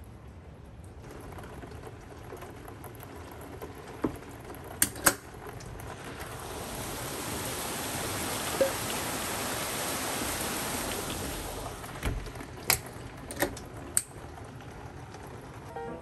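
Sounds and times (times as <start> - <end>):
heavy rain pouring: 1.0 - 16.0.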